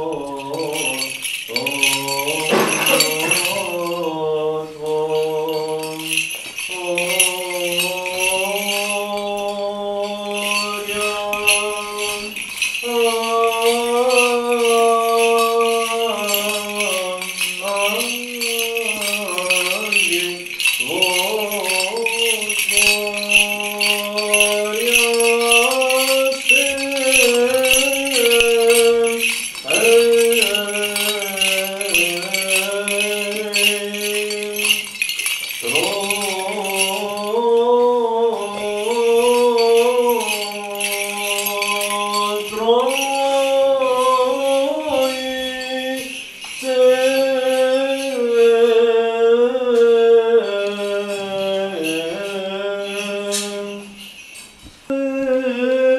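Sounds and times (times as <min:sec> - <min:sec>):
men chanting a hymn: 0:00.0 - 0:54.1
censer bells jingling: 0:00.0 - 0:55.6.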